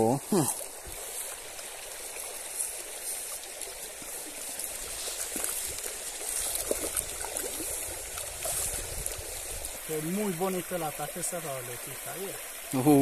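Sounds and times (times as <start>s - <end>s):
river water flowing over stones: 0.0s - 13.0s.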